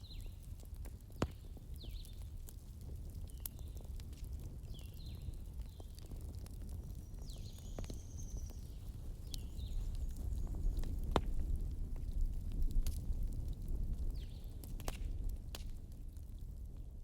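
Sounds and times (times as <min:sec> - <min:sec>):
campfire rumbling: 0:00.0 - 0:17.0
wood crackling and popping: 0:00.0 - 0:17.0.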